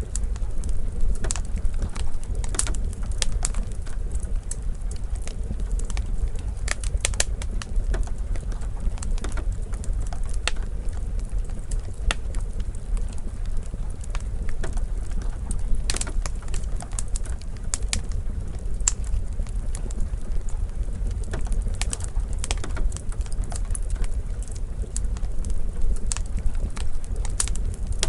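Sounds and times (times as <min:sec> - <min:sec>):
low steady rumble: 0:00.0 - 0:28.0
wood fire crackling and popping: 0:00.0 - 0:28.0.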